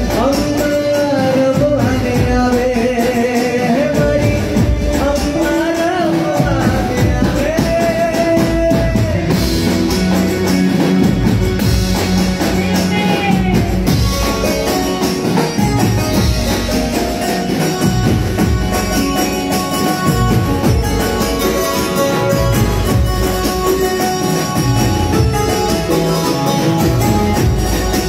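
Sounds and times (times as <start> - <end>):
live band dance music: 0.0 - 28.0.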